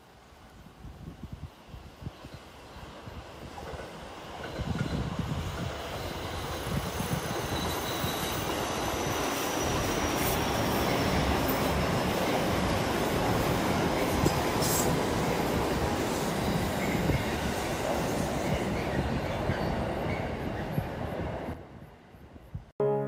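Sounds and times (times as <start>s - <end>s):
electric train running past: 1.4s - 22.4s.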